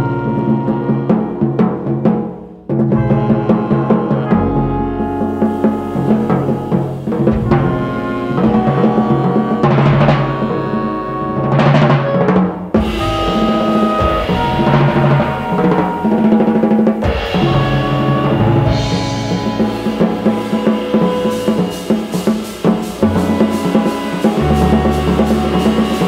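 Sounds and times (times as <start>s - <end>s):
drums and cymbals: 0.0s - 26.0s
live band music: 0.0s - 26.0s
double bass: 2.9s - 26.0s.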